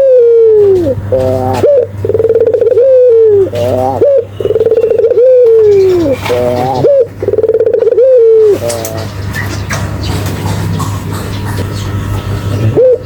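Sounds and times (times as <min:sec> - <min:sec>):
dove cooing: 0:00.0 - 0:13.0
low steady hum: 0:00.0 - 0:13.0.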